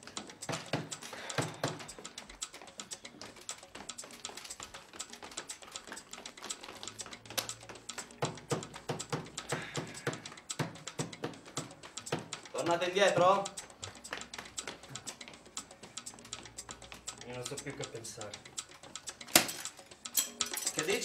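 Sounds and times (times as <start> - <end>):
rapid irregular clicking and tapping: 0.0 - 21.0.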